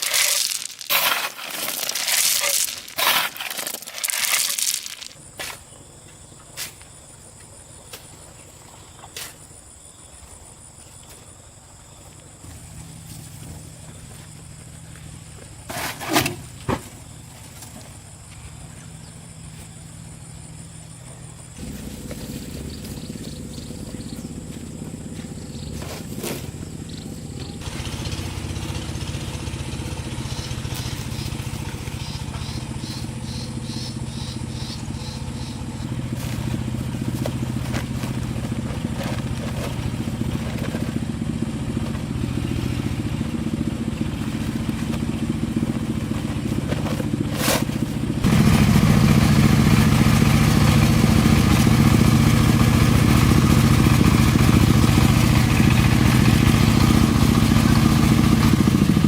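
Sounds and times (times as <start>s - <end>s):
engine running: 0.0s - 5.6s, 12.2s - 59.0s.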